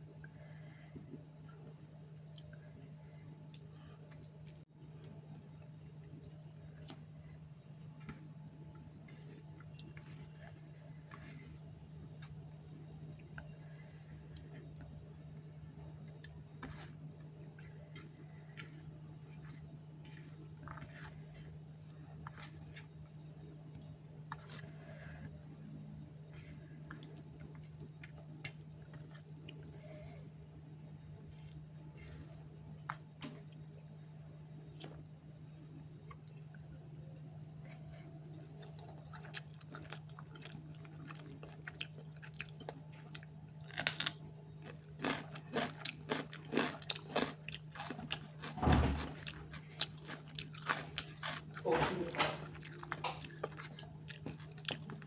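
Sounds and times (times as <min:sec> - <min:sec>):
steady low hum: 0:00.0 - 0:55.0
crunchy chewing: 0:06.0 - 0:30.3, 0:31.1 - 0:35.1, 0:36.0 - 0:55.0.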